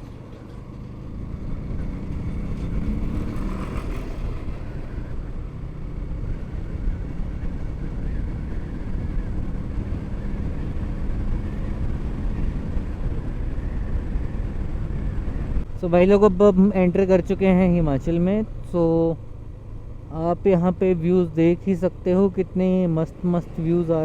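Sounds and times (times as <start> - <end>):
motorcycle engine drone: 0.0 - 24.0
road and wind noise: 0.0 - 24.0.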